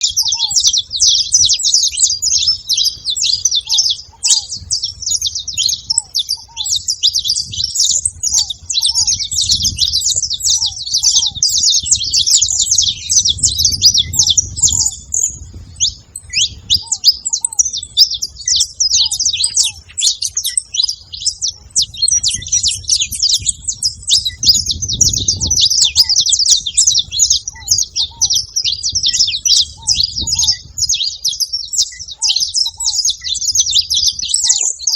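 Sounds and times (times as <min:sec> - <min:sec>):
doves low paired notes: 0:00.0 - 0:34.9
finch chattering song: 0:00.0 - 0:34.9.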